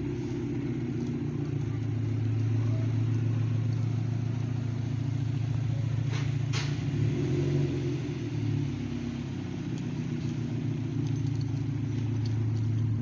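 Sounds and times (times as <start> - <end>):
car engine running at low revs: 0.0 - 13.0
sharp exhaust snaps: 0.0 - 13.0.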